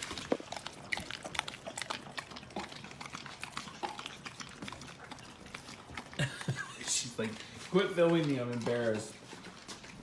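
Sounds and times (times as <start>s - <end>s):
dog licking and smacking: 0.0s - 10.0s.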